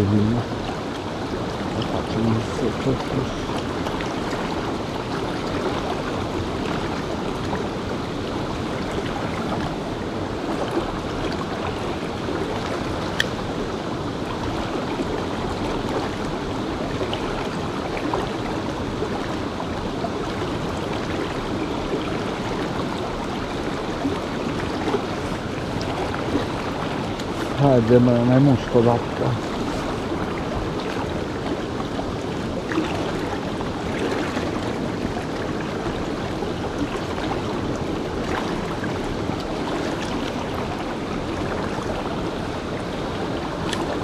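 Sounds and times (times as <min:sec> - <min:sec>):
mountain river running: 0:00.0 - 0:44.0.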